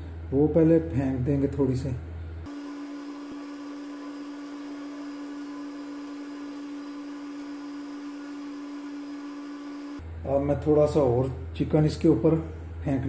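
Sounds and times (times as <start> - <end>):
steady electric hum: 0.0 - 13.0.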